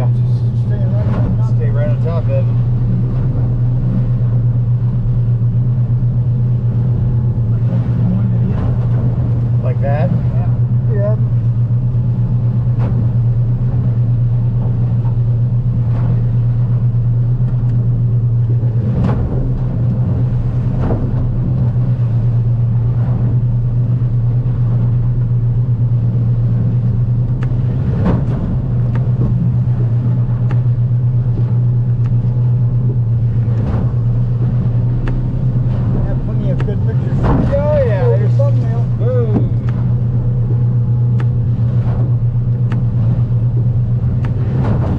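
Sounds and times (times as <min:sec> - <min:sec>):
boat hull knocking on waves: 0:00.0 - 0:44.9
outboard engine drone: 0:00.0 - 0:44.9.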